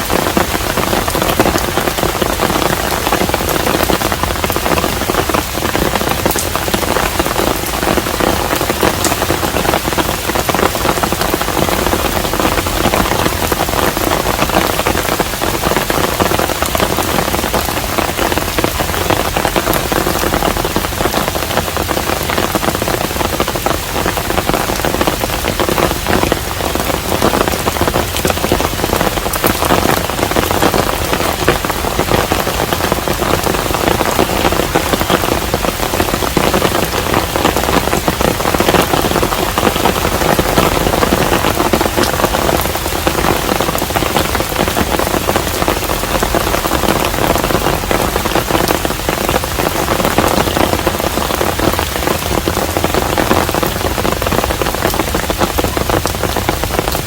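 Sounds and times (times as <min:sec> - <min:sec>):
rain falling on a roof: 0:00.0 - 0:57.0.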